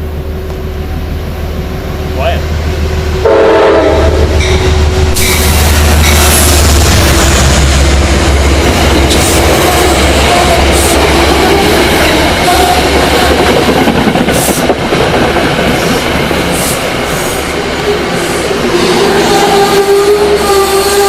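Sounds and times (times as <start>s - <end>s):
train cars rumbling past: 0.0s - 21.0s.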